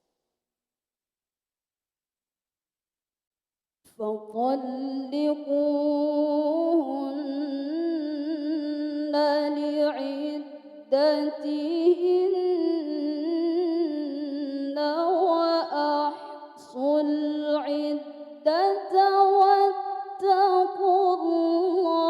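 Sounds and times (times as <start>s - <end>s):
woman reciting melodically: 4.0s - 22.0s.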